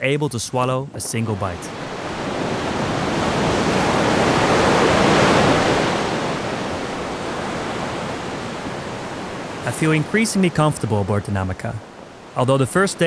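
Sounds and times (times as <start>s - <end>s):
boat wake rushing and churning: 0.0s - 13.0s
ocean waves: 0.0s - 13.0s.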